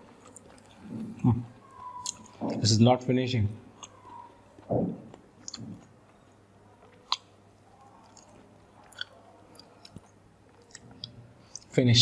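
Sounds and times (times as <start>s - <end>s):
person chewing: 0.0s - 2.6s, 3.7s - 11.7s.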